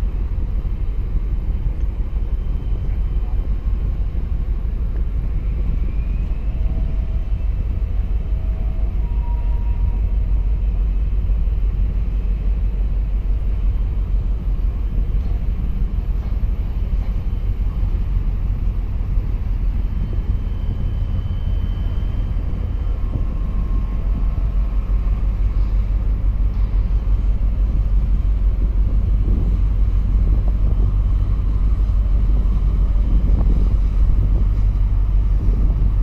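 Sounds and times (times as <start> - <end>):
deep ship engine rumble: 0.0 - 36.0.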